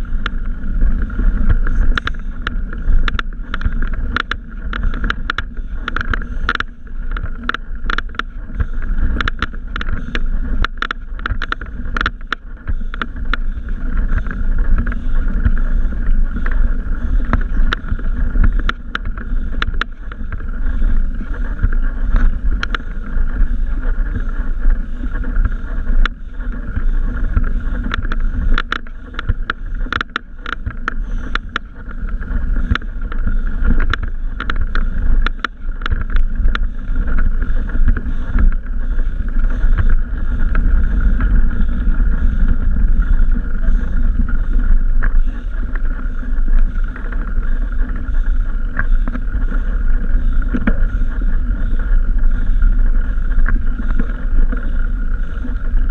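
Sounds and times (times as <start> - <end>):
bicycle tyres rumbling on trail: 0.0 - 55.9
bike rattling over bumps: 0.0 - 55.9.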